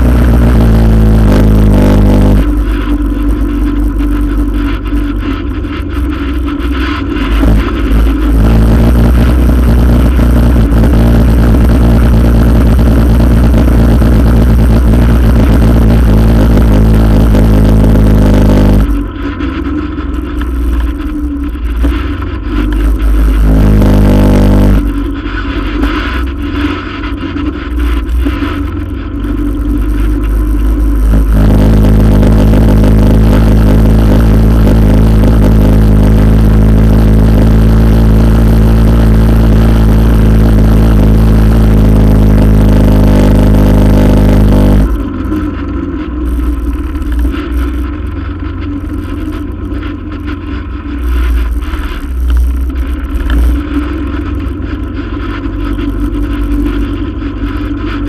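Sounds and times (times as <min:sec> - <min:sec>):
atv engine: 0:00.0 - 0:58.0.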